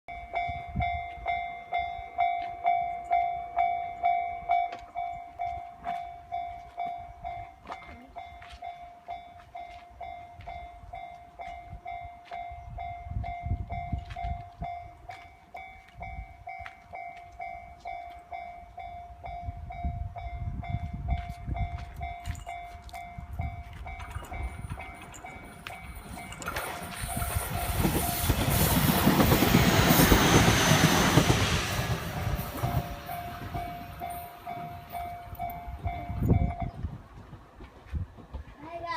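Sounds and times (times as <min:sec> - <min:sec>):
level-crossing warning bell ringing: 0:00.1 - 0:37.0.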